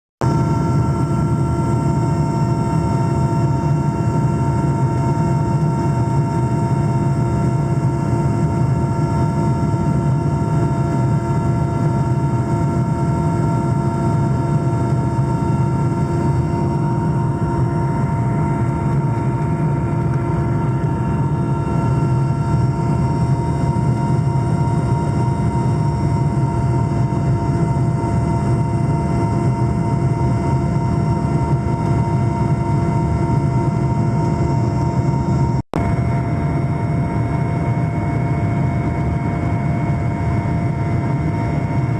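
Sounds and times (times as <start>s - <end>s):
helicopter engine and rotor drone: 0.2s - 41.9s.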